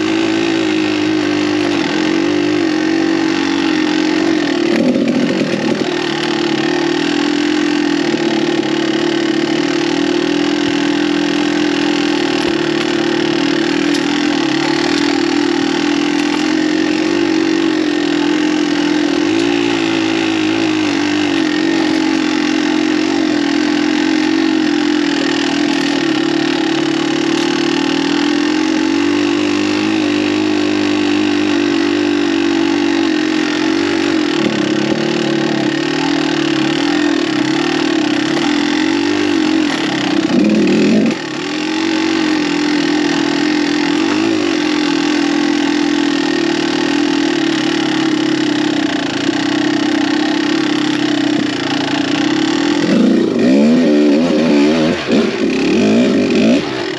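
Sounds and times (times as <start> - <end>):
two-stroke motorcycle engine running: 0.0 - 56.9.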